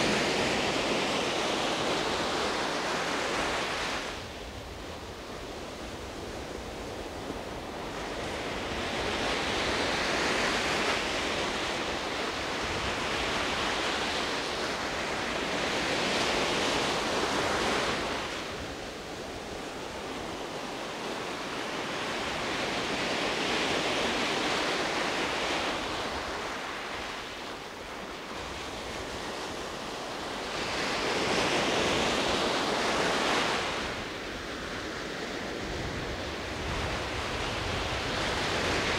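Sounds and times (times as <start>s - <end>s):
sea waves breaking: 0.0s - 38.9s.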